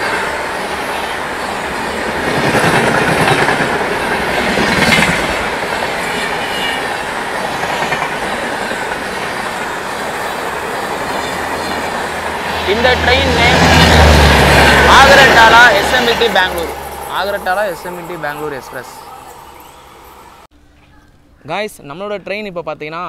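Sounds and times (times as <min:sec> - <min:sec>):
train rumble: 0:00.0 - 0:20.5.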